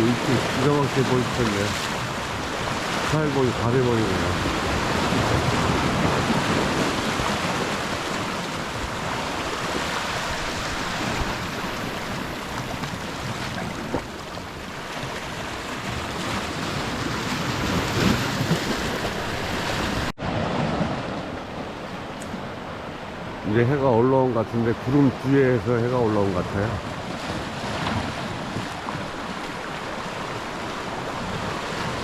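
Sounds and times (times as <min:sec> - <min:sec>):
sea waves washing onto shore: 0:00.0 - 0:32.0.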